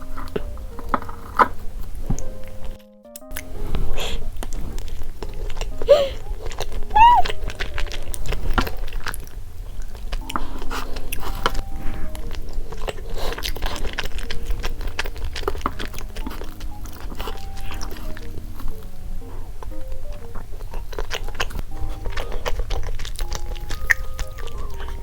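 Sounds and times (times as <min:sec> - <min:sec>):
light background music: 0:00.0 - 0:25.0
chewing with wet mouth clicks: 0:04.4 - 0:25.0.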